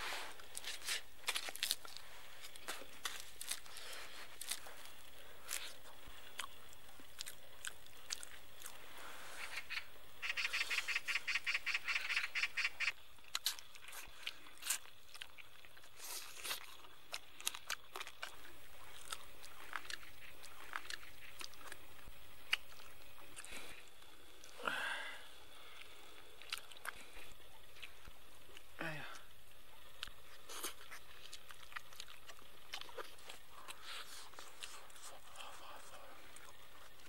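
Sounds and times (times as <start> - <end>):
chewing and crunching: 0.0 - 37.0.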